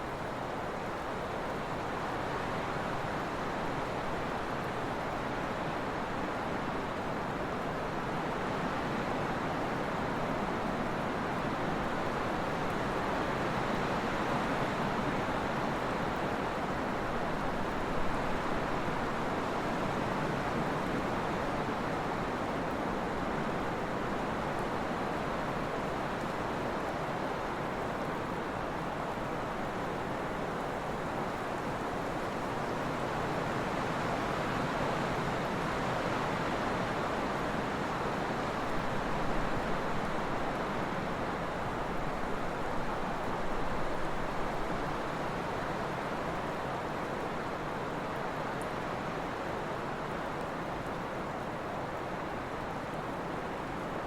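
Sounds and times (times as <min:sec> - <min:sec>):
wind blowing steadily: 0:00.0 - 0:54.0.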